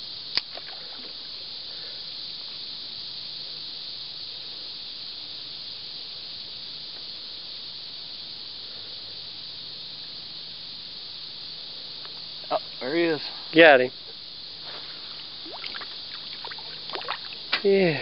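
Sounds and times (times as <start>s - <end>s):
high-pitched outdoor hiss: 0.0s - 18.0s.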